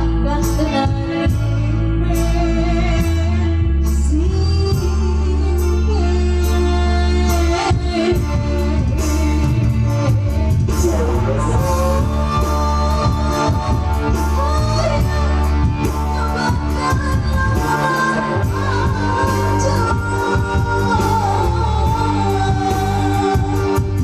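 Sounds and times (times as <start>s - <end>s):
heavy bass accompaniment: 0.0s - 24.0s
person singing: 0.0s - 24.0s.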